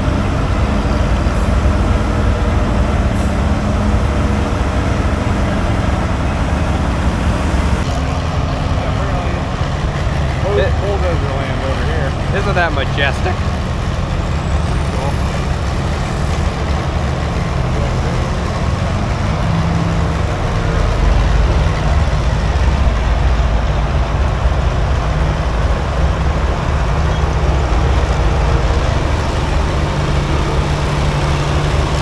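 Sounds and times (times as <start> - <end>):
large engine rumbling: 0.0 - 32.0.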